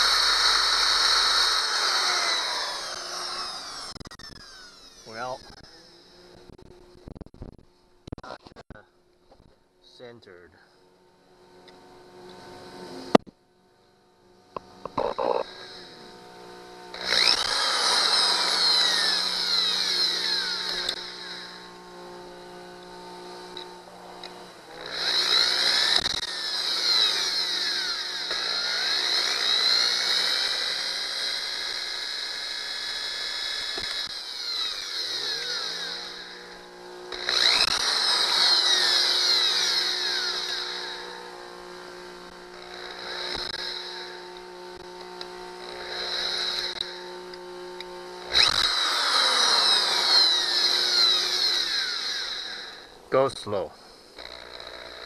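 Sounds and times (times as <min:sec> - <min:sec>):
electric drill boring: 0:00.0 - 0:07.3, 0:14.5 - 0:55.0.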